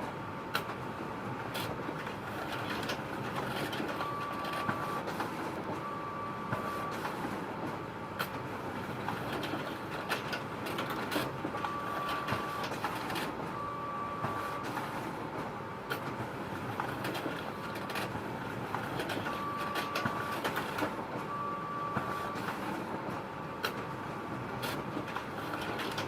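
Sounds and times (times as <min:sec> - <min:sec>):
photocopier whirring: 0:00.5 - 0:26.0.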